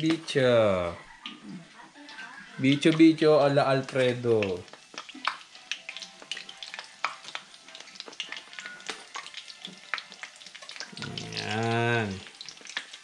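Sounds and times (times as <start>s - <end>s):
dough deep-frying in oil: 0.0s - 13.0s.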